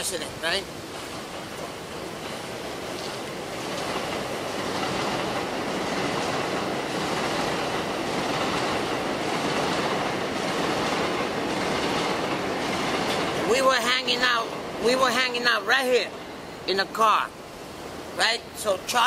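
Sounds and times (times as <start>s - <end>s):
elevated subway train running: 0.0s - 18.9s.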